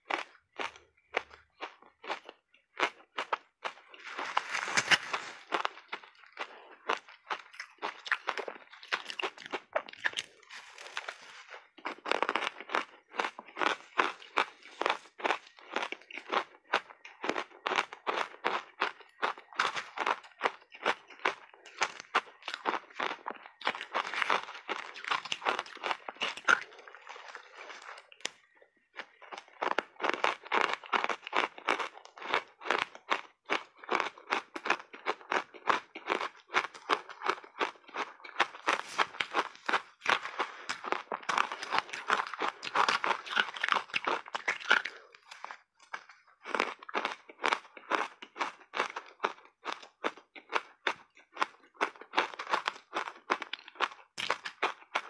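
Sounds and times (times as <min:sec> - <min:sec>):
ice crunching while chewing: 0:00.0 - 0:55.0.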